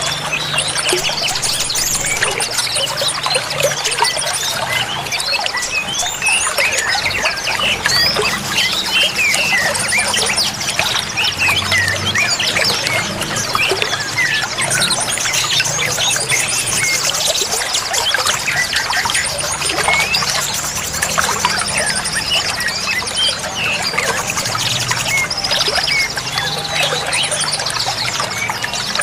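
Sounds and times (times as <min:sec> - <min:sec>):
songbirds chirping: 0:00.0 - 0:29.0
trickling water: 0:00.0 - 0:29.0.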